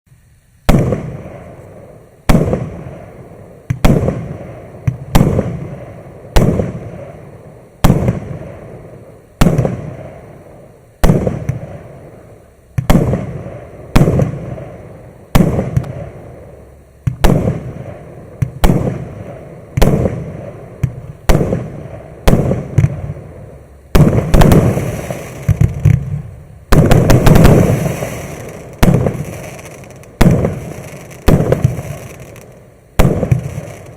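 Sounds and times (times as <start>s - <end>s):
firework bangs with crackle: 0.6s - 33.9s.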